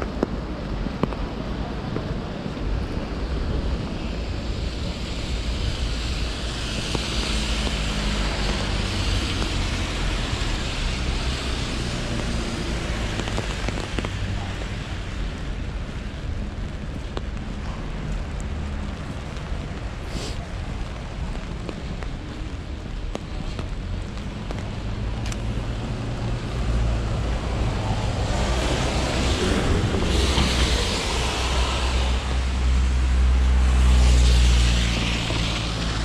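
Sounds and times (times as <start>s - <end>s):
steady rain: 0.0s - 36.0s
wind rumbling on microphone: 0.0s - 36.0s
car tyres hissing on wet road: 0.3s - 36.0s.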